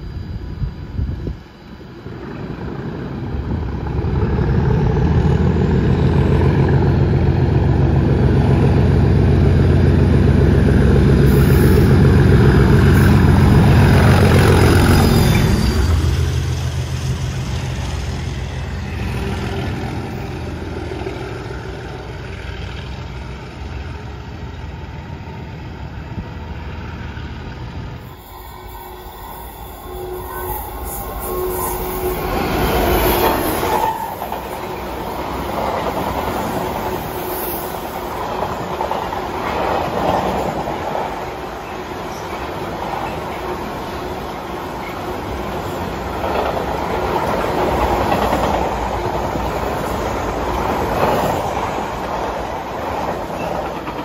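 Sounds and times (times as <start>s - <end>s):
diesel locomotive engine passing: 0.0s - 54.0s.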